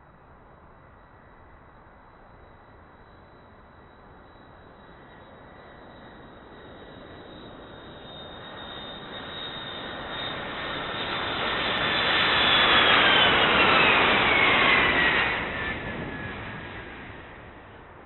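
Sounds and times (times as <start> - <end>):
jet airliner passing overhead: 0.8 - 18.0.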